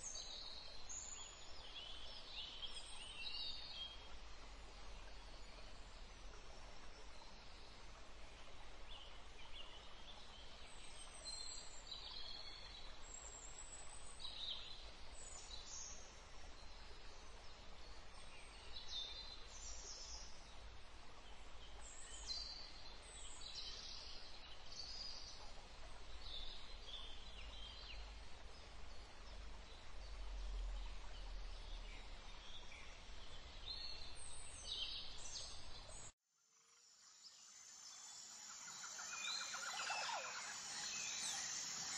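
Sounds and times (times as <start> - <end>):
low rumble of background noise: 0.0 - 36.1.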